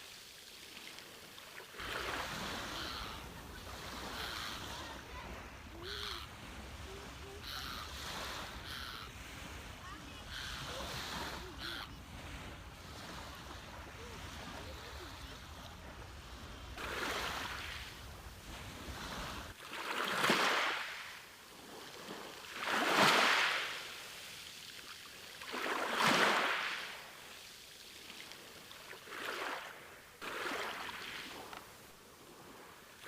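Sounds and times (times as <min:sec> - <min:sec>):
ocean waves breaking on beach: 0:00.0 - 0:33.0.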